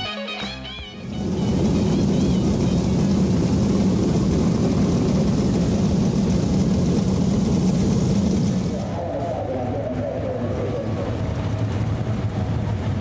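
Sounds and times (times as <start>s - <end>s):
race car engine rumbling: 0.6s - 13.0s.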